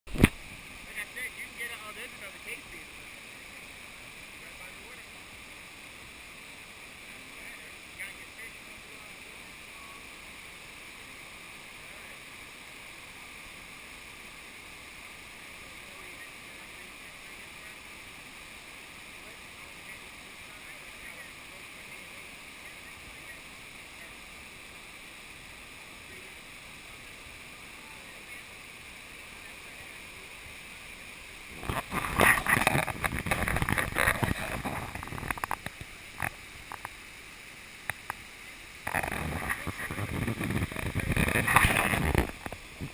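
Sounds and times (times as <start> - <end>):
creek cascading over rocks: 0.1 - 42.9
waterfall rushing: 0.1 - 42.9.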